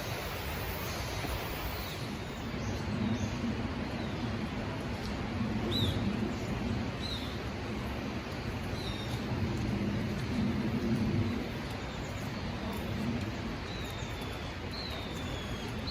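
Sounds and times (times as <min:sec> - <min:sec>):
mountain stream running: 0:00.0 - 0:15.9.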